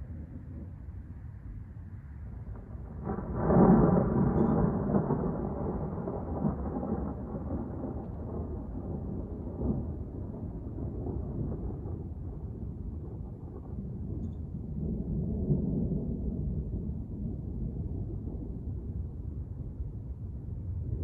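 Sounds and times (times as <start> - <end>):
thunder rumbling: 2.2 - 21.0.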